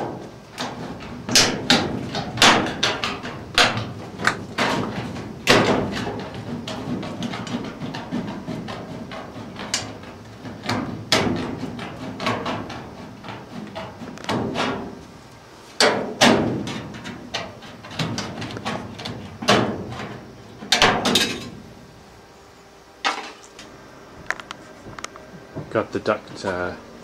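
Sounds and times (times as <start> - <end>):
sheet metal duct clanging: 0.0 - 21.7.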